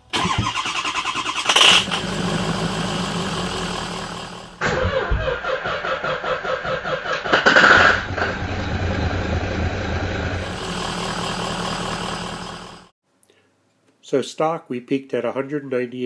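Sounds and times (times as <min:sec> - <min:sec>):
diesel engine cranking and starting: 0:00.0 - 0:12.9.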